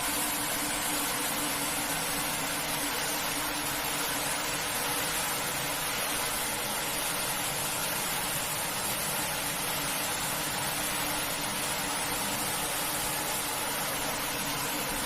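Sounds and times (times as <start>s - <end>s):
carpet-washing machine running: 0.0s - 15.0s.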